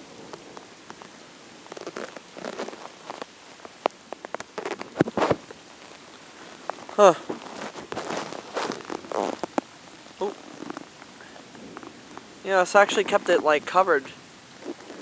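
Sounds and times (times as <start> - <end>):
raindrops tapping: 0.0 - 15.0.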